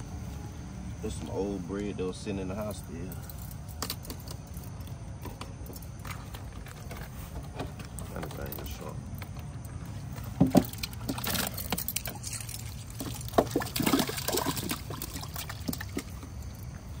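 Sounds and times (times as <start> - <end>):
water splashing and sloshing: 3.2 - 17.0.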